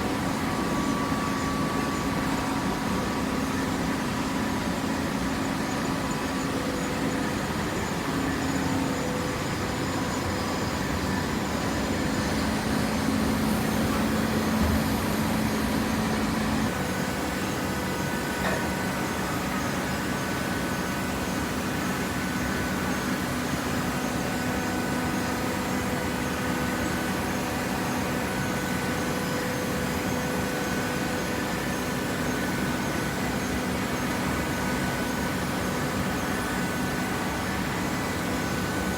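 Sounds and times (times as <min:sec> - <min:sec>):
motor and pump humming: 0:00.0 - 0:38.9.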